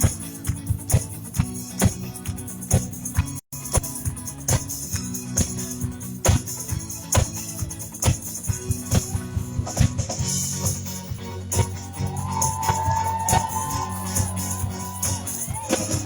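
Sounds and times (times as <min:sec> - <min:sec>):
bass line: 0:00.0 - 0:16.0
drum beat: 0:00.0 - 0:16.0
high hissing percussion: 0:00.0 - 0:16.0.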